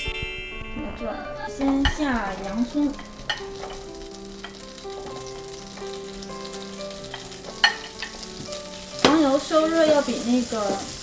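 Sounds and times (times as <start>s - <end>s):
butter sizzling in frying pan: 1.4s - 11.0s.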